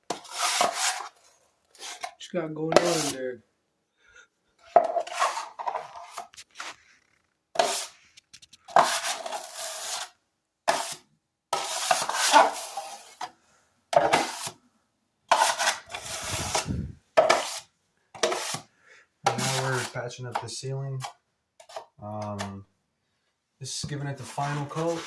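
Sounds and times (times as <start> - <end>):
taping knife scraping joint compound: 0.1 - 3.2, 4.6 - 13.3, 15.3 - 22.6, 24.0 - 25.0.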